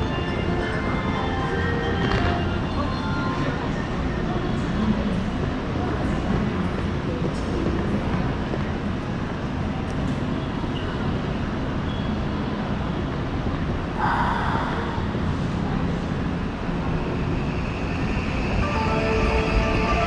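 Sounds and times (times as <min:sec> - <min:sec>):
railway station rumble: 0:00.0 - 0:20.0.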